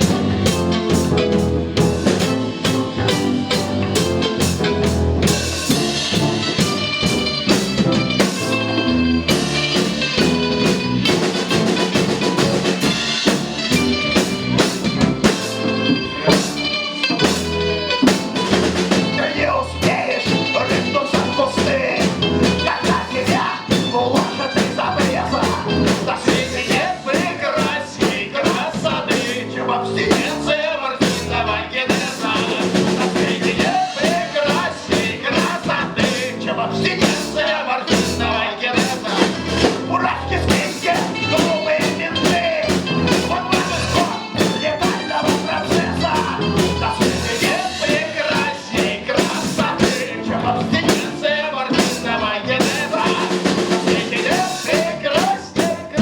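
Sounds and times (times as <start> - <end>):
live blues-rock band playing: 0.0 - 56.0.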